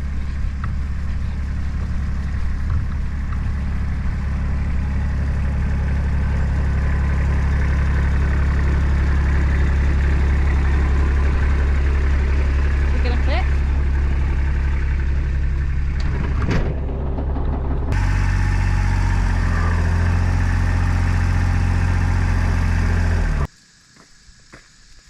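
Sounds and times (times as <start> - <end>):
vehicle engine running: 0.0 - 23.5.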